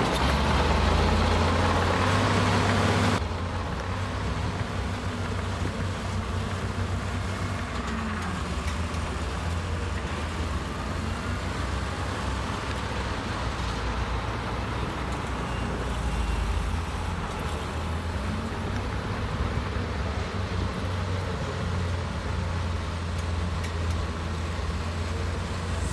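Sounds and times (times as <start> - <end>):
heavy diesel engine drone: 0.0 - 25.9.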